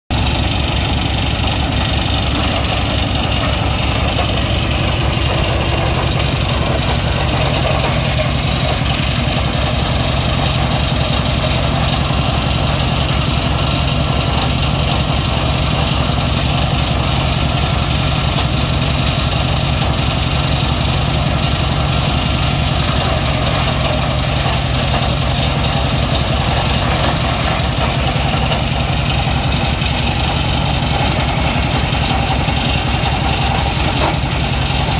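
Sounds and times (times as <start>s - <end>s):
low engine beat: 0.1s - 34.9s
wood grinder grinding fronds: 0.1s - 34.9s.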